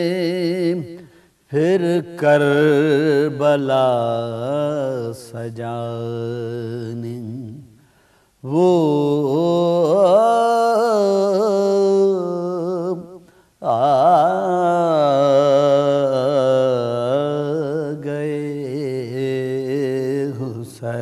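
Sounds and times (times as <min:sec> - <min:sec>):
man chanting: 0:00.0 - 0:07.8, 0:08.4 - 0:21.0.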